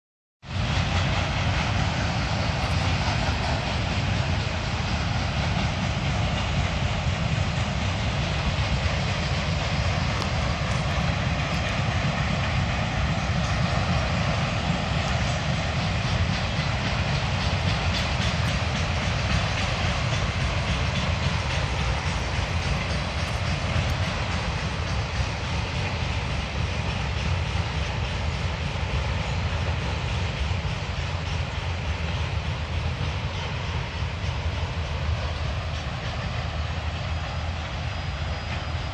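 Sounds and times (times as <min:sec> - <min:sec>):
freight train rumbling past: 0:00.4 - 0:38.9.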